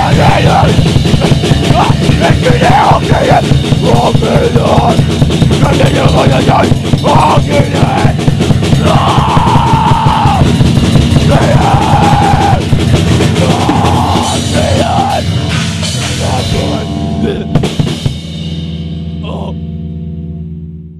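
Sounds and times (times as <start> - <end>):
fast pounding drum kit: 0.0 - 19.6
heavy rock song: 0.0 - 20.2.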